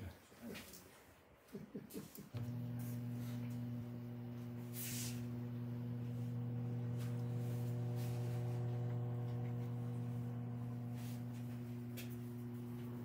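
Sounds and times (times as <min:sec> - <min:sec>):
low electrical hum: 0:02.4 - 0:13.0.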